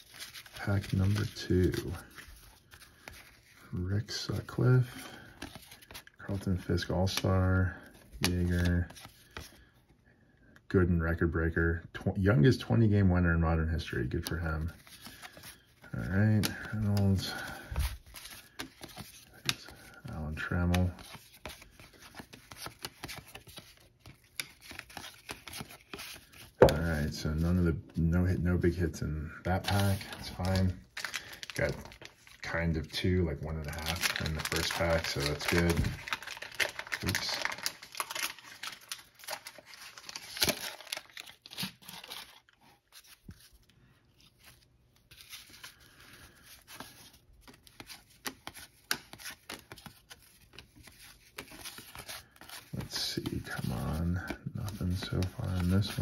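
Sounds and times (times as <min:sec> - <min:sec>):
wax-paper wrapper crinkling and tearing: 0:00.0 - 0:09.7, 0:14.1 - 0:27.6, 0:29.5 - 0:56.0
cardboard cards flipped and rustling: 0:00.0 - 0:09.8, 0:14.0 - 0:27.6, 0:29.5 - 0:56.0.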